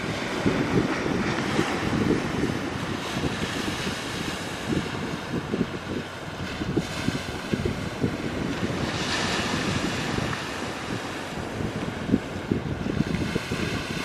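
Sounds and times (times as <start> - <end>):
sea surf: 0.0 - 14.0
wind buffeting microphone: 0.0 - 14.0.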